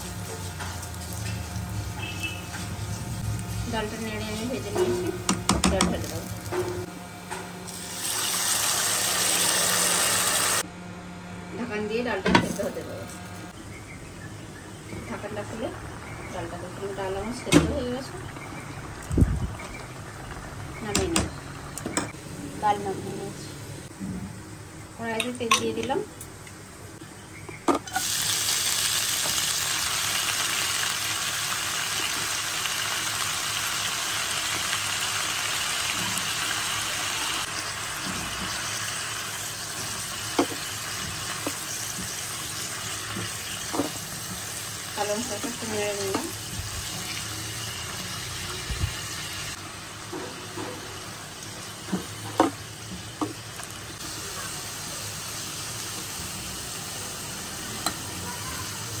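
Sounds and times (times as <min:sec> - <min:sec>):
greens sizzling in hot oil: 0:00.0 - 0:06.9, 0:07.6 - 0:10.6, 0:15.0 - 0:22.0, 0:27.8 - 0:59.0.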